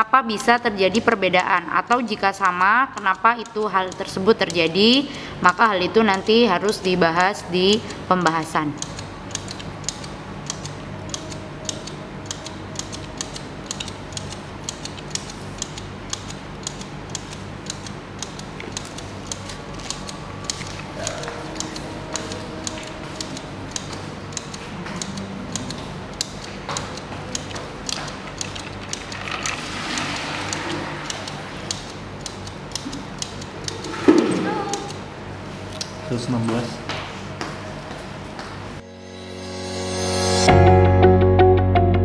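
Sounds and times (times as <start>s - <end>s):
low steady hum: 0.0s - 38.9s
mechanical timer ticking: 0.2s - 35.1s.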